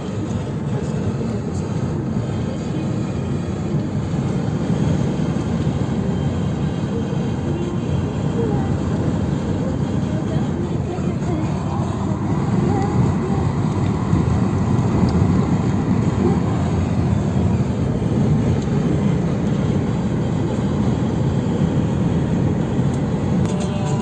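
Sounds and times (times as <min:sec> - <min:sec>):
car driving rumble: 0:00.0 - 0:24.0.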